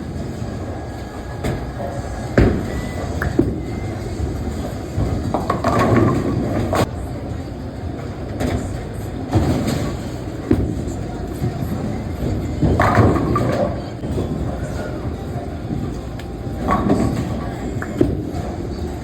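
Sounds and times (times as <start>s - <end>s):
bowling pins clattering: 0.0s - 7.0s, 7.9s - 19.0s
bowling balls rolling: 0.0s - 19.0s.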